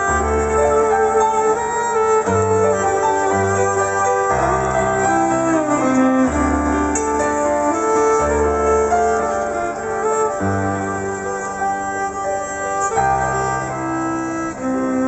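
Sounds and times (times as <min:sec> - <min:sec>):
piano: 0:00.0 - 0:15.0
violin melody: 0:00.0 - 0:15.0.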